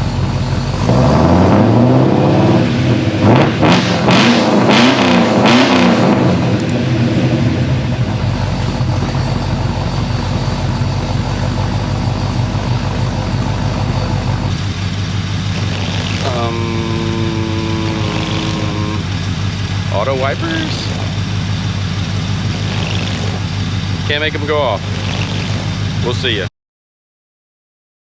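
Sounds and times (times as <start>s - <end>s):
engine revving: 0.0s - 26.5s.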